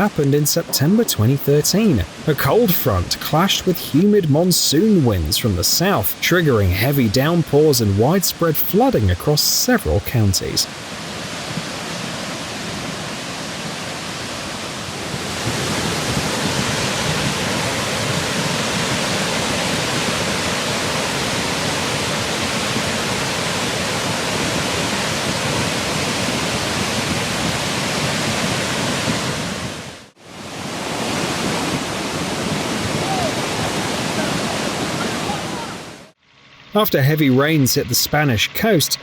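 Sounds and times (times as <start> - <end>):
floodwater rushing: 0.0 - 36.2.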